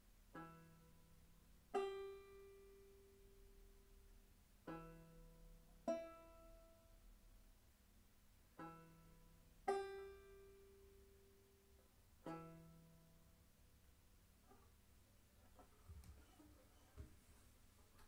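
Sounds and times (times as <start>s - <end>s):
banjo plucked slowly: 0.0s - 18.0s.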